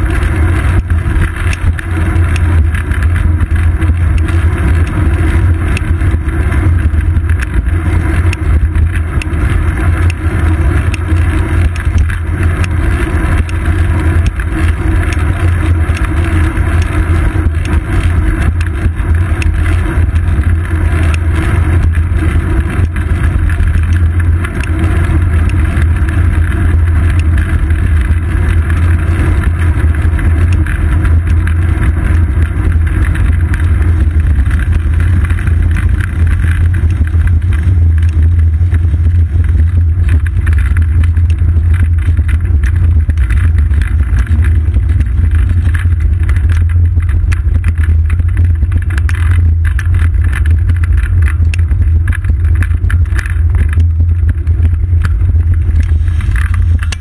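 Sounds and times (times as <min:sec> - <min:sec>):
tyre on road vibration: 0:00.0 - 0:57.0
wind over camera: 0:00.0 - 0:57.0.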